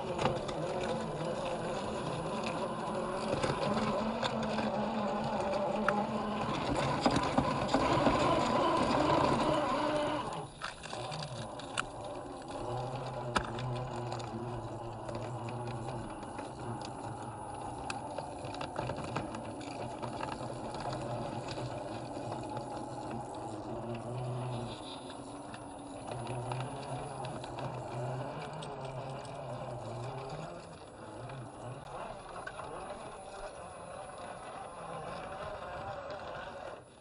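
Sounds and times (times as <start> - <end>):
grit ticking: 0.0 - 36.7
electric motor whine: 0.0 - 37.0.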